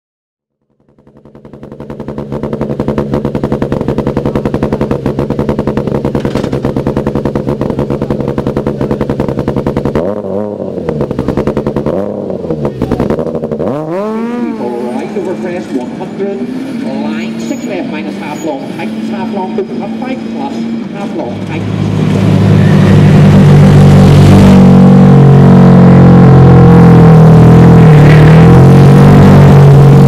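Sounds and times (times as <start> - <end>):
rally car engine idling and revving: 0.5 - 30.0.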